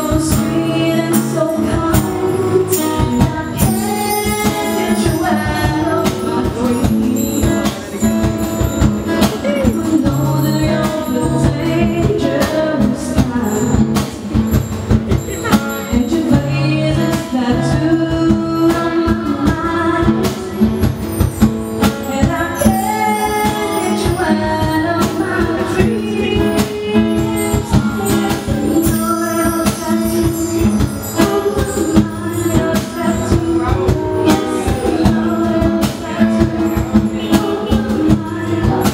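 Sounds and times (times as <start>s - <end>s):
woman singing: 0.0s - 14.5s, 15.4s - 38.9s
acoustic guitar: 0.0s - 38.9s.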